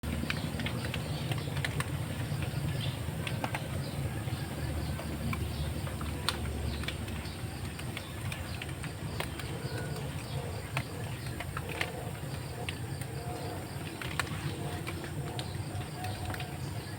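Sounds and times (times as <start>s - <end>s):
sharp clicks: 0.1s - 16.9s
small birds chirping: 0.1s - 16.9s.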